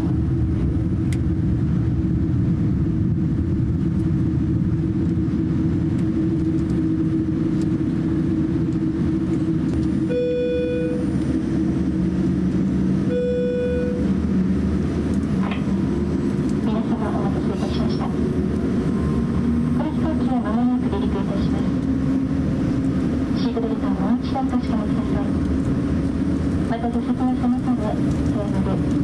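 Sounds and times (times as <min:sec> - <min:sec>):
aircraft cabin engine hum: 0:00.0 - 0:29.0.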